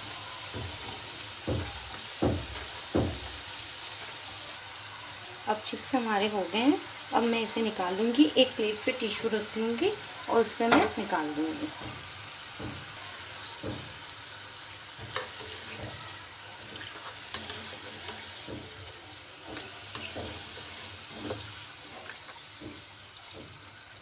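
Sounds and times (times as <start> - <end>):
chips sizzling in hot oil: 0.0 - 24.0.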